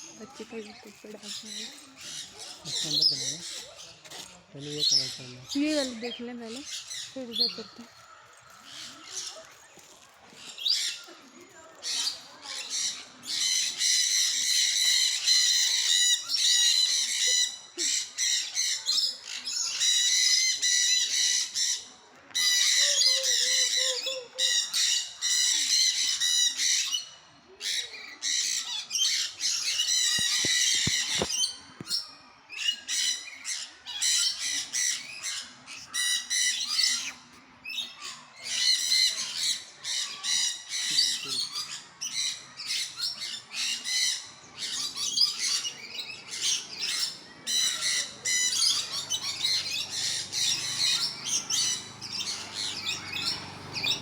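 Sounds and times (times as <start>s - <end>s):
birds squawking: 0.0s - 9.4s, 11.8s - 32.0s, 37.8s - 54.0s.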